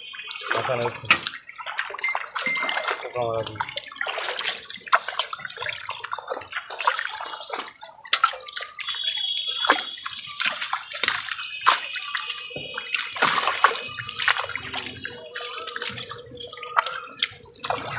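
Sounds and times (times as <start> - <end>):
fish thrashing and splashing in water: 0.0 - 17.9
hands splashing in water: 0.4 - 17.9.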